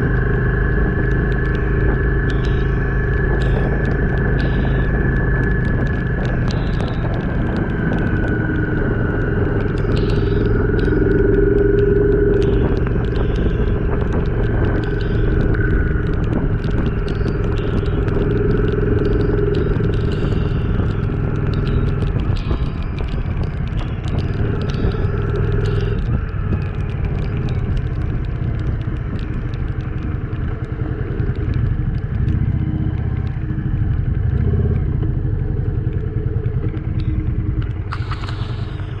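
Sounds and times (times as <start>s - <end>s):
motorcycle engine running: 0.0s - 39.0s
raindrops ticking on camera: 0.0s - 39.0s.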